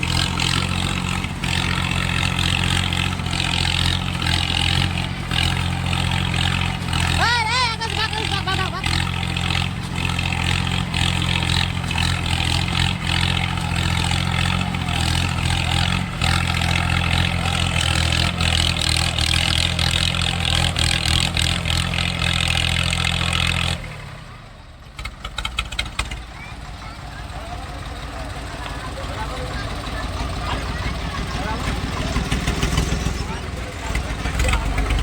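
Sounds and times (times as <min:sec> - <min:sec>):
tractor diesel engines under load: 0:00.0 - 0:35.0.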